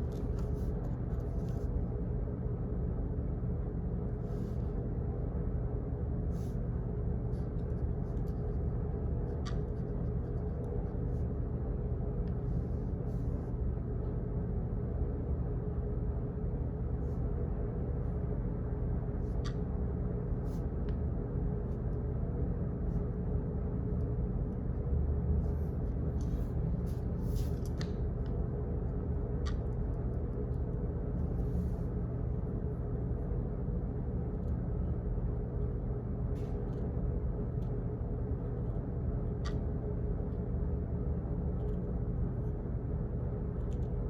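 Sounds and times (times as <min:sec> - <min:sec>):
low rumble and hum: 0:00.0 - 0:44.0.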